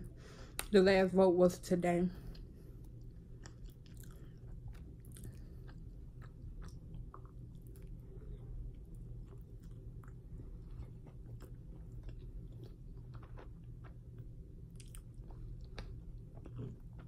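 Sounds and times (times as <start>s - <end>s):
steady low hum: 0.0s - 17.0s
person chewing with mouth clicks: 2.3s - 17.0s.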